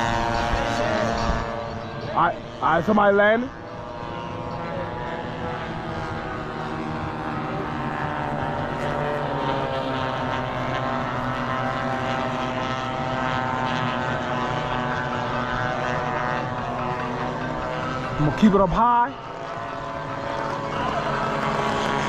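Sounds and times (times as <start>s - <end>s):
model planes droning: 0.0s - 22.0s.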